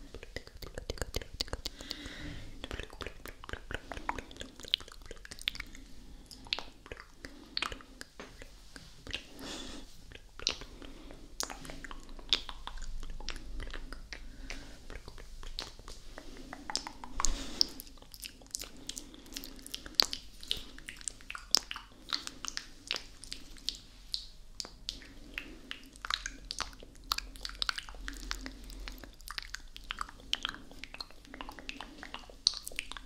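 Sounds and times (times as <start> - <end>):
lip smacks: 0.0 - 33.0
tongue clicks: 0.1 - 5.7, 10.1 - 10.8, 11.4 - 33.0.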